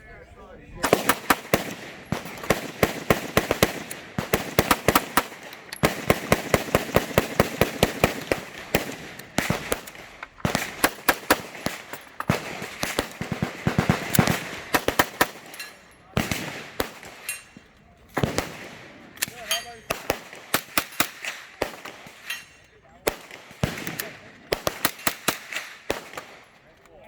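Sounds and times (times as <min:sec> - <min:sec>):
gunshots: 0:00.8 - 0:26.6.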